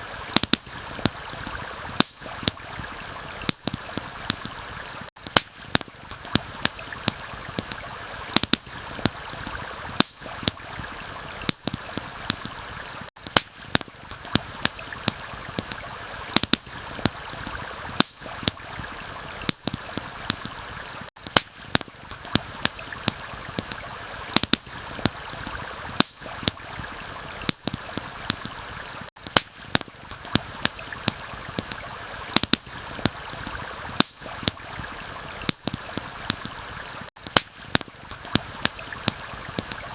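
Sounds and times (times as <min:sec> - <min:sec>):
campfire crackling: 0:00.0 - 0:39.9
stream flowing: 0:00.0 - 0:39.9.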